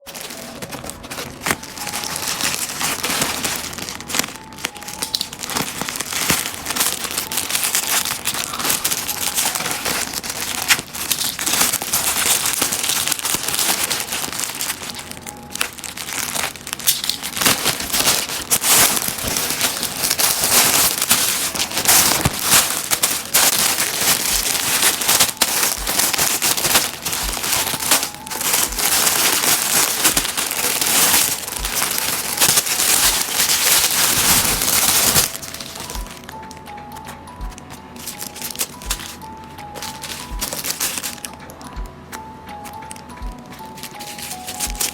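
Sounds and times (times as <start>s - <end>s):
plastic packaging crinkling: 0.0s - 44.9s.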